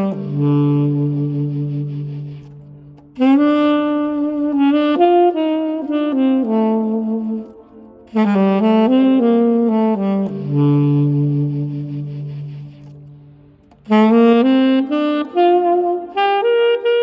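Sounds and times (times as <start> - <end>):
alto saxophone playing: 0.0 - 17.0.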